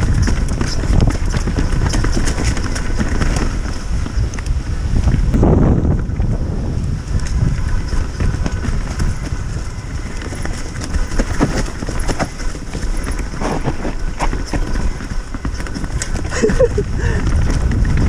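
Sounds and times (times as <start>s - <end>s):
mountain bike rattling: 0.0s - 18.0s
wind rumble on microphone: 0.0s - 18.0s.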